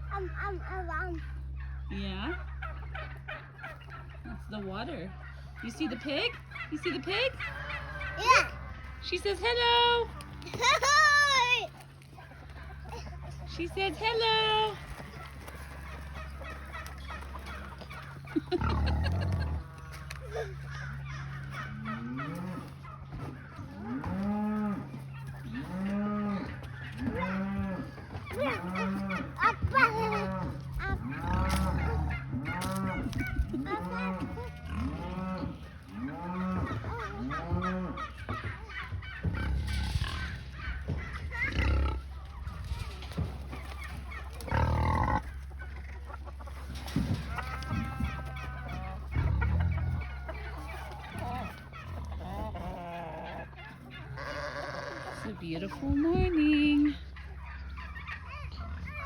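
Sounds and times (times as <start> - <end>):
farm animal calling: 0.0 - 59.0
steady low hum: 0.0 - 59.0.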